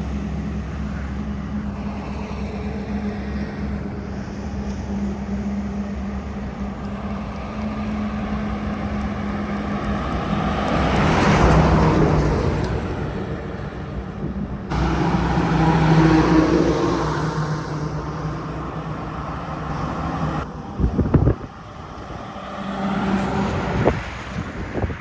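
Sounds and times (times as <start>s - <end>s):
diesel trucks passing: 0.0s - 25.0s.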